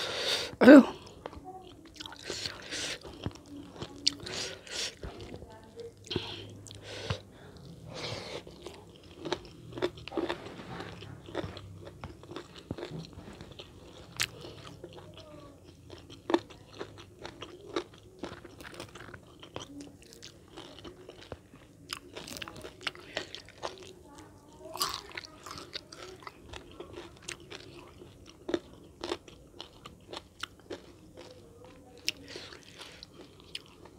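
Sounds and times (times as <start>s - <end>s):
person eating crunchy food: 0.9s - 5.4s, 6.0s - 24.0s, 24.7s - 31.4s, 32.0s - 33.9s.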